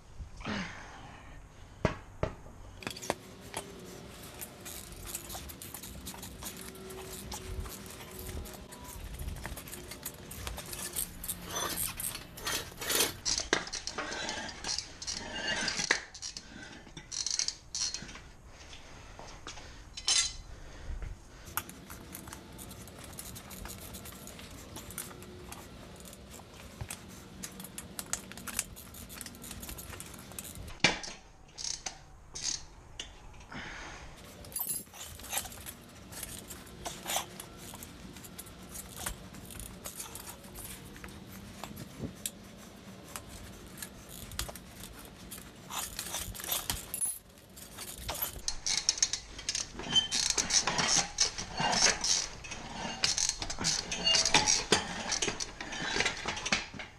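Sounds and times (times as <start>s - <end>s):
metal tools clinking and scraping: 2.7s - 20.5s, 21.4s - 33.6s, 34.2s - 56.9s.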